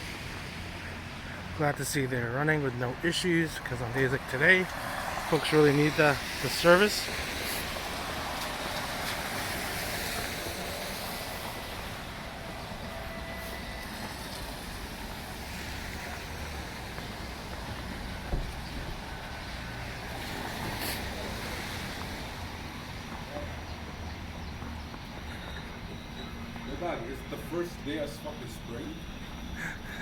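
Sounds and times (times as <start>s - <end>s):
passing vehicles: 0.0s - 30.0s.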